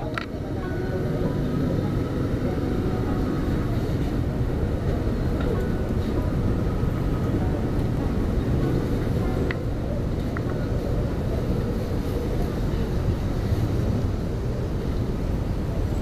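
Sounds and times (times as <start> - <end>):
low rumbling street noise: 0.0 - 16.0.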